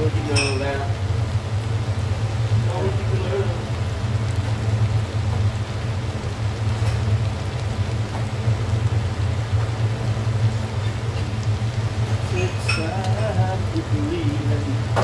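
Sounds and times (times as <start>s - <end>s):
gas burner rumble with crackling hiss: 0.0s - 15.0s.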